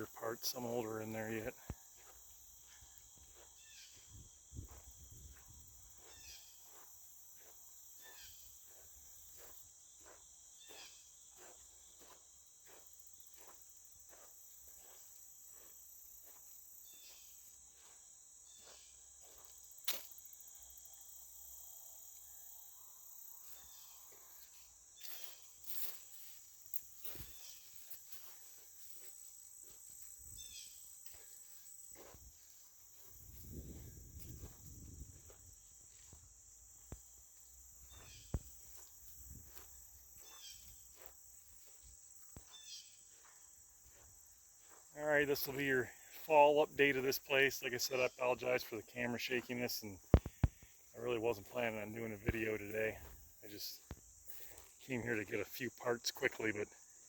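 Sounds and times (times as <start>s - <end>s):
crickets and insects chirping: 0.0s - 57.0s.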